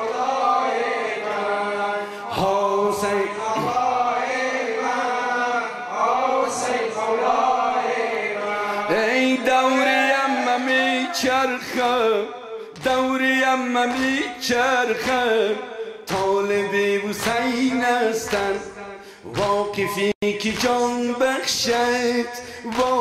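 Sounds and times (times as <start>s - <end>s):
man chanting lament over microphone: 1.4s - 5.7s, 8.4s - 23.0s.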